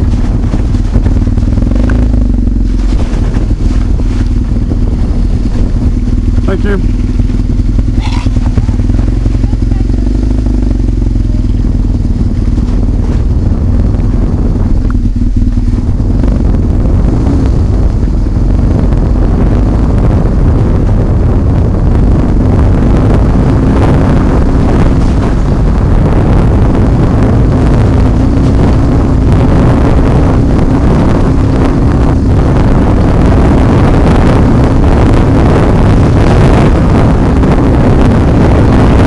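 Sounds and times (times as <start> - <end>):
motorcycle engine running: 0.0 - 39.0
wind noise: 0.0 - 39.0.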